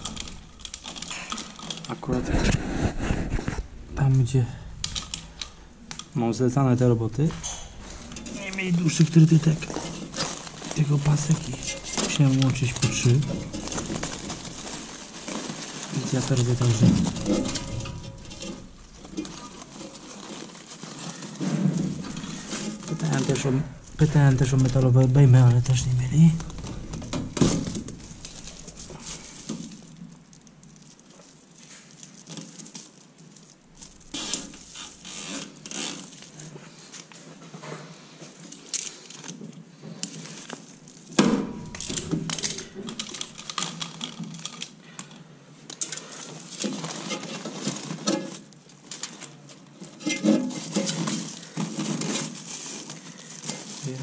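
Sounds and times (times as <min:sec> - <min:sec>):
clicks and scrapes: 0:00.0 - 0:03.8, 0:07.2 - 0:54.0
foil duct crinkling: 0:00.0 - 0:54.0.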